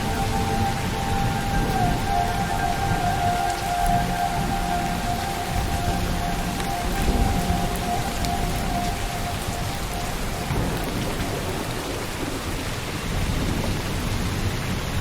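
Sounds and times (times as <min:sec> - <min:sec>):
low rumble of thunder: 0:00.0 - 0:15.0
rain pattering: 0:00.0 - 0:15.0.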